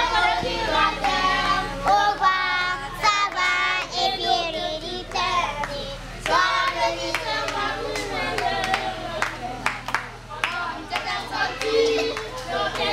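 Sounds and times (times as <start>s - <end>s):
children singing together: 0.0s - 9.3s, 10.4s - 12.9s.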